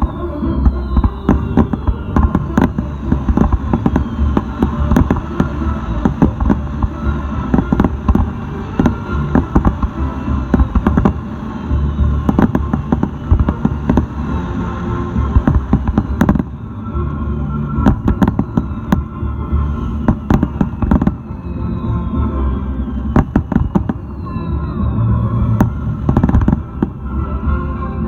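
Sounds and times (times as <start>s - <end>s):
falling firework whistles: 0.0s - 28.0s
fireworks bangs: 0.0s - 28.0s
low rumble: 0.0s - 28.0s.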